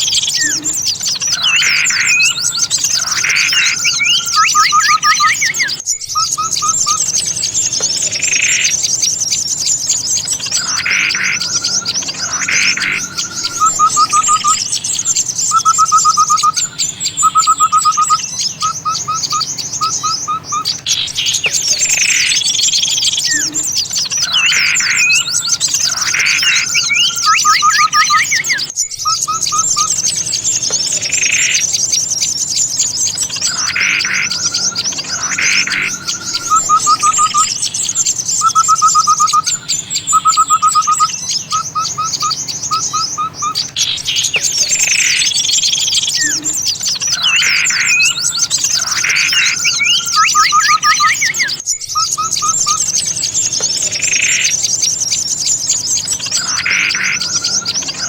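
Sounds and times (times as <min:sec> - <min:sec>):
small songbirds chirping: 0:00.0 - 0:58.0
whistled bird phrases and trills: 0:00.0 - 0:58.0.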